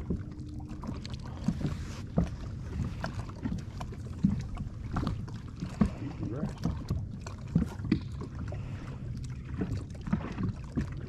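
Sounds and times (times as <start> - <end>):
low boat rumble: 0.0 - 11.0.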